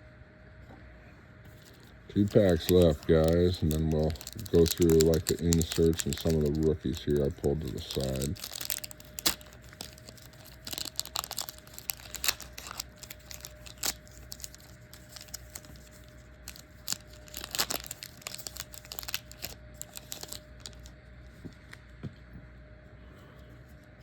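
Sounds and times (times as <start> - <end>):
card pack wrapper tearing: 1.5 - 20.9.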